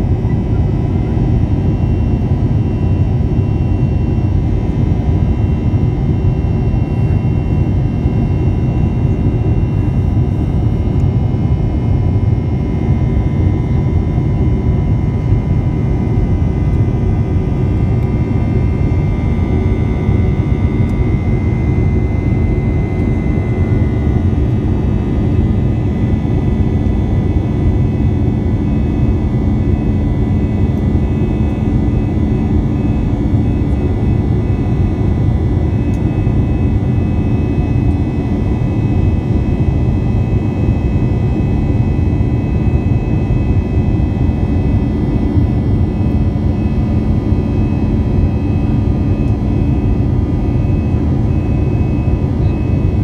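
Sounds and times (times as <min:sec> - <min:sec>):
faint steady whining tones: 0:00.0 - 0:53.0
jet engine roar: 0:00.0 - 0:53.0.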